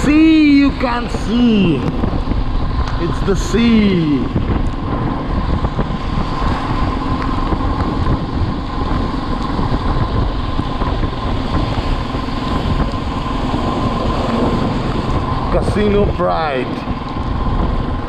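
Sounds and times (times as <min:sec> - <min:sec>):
motorcycle engine and road noise: 0:00.0 - 0:18.0
wind over microphone: 0:00.0 - 0:18.0.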